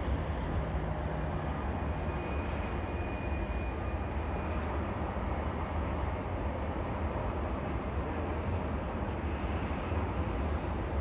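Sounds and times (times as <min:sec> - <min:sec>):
distant jet rumble and hiss: 0:00.0 - 0:11.0
high engine whine: 0:00.0 - 0:11.0.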